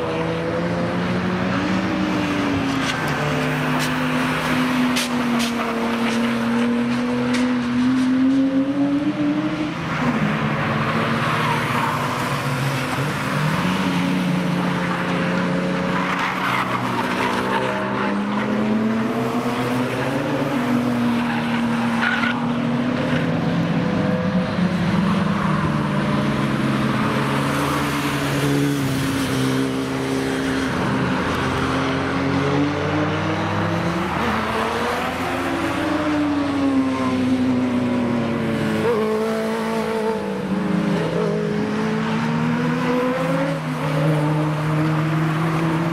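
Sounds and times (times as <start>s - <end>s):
race car engines revving: 0.0s - 45.9s.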